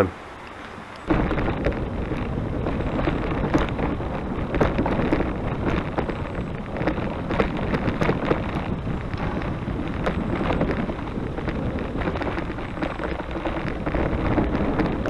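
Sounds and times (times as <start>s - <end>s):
wind buffeting microphone: 0.0s - 15.0s
bicycle rattling and knocking: 1.0s - 15.0s.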